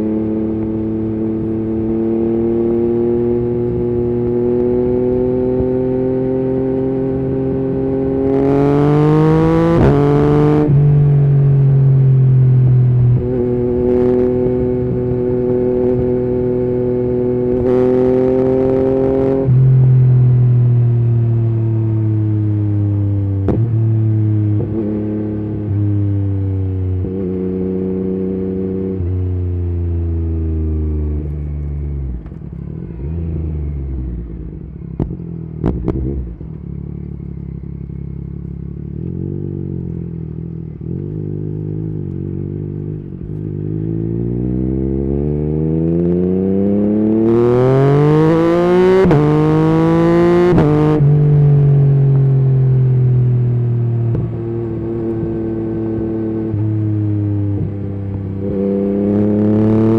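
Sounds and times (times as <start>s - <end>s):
motorcycle engine downshifting and accelerating: 0.0s - 59.9s.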